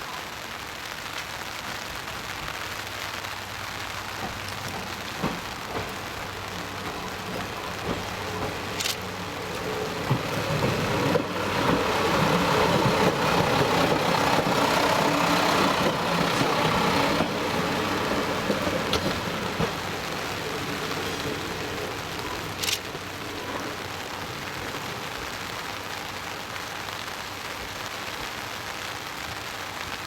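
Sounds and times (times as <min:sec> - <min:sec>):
steady noisy hiss: 0:00.0 - 0:30.0
railcar engine hum: 0:00.1 - 0:29.1.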